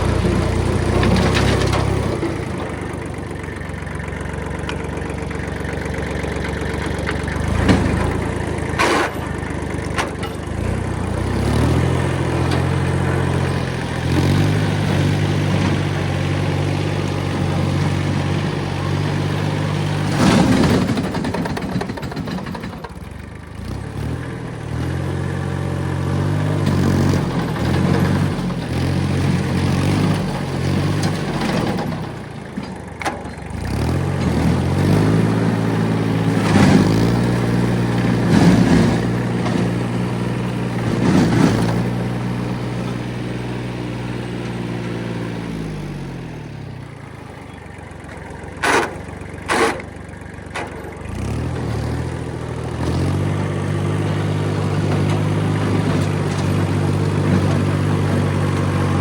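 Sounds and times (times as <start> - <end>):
diesel engine revving and idling: 0.0 - 59.0.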